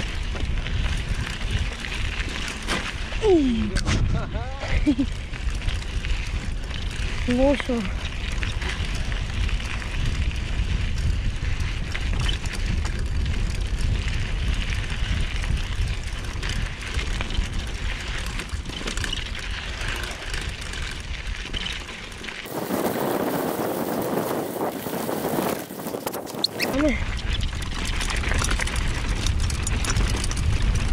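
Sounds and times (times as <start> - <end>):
bike frame rattling: 0.0 - 30.9
bike tyres crunching on dirt: 0.0 - 30.9
wind buffeting microphone: 0.0 - 30.9.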